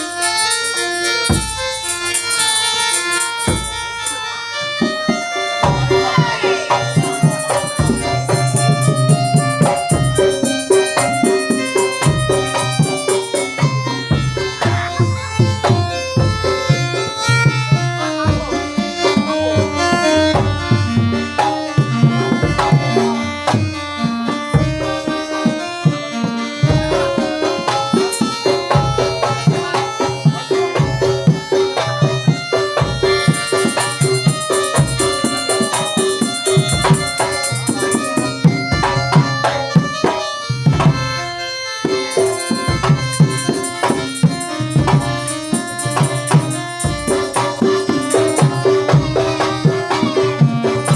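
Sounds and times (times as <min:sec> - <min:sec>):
hand drums beating: 0:00.0 - 0:50.9
melody: 0:00.0 - 0:50.9.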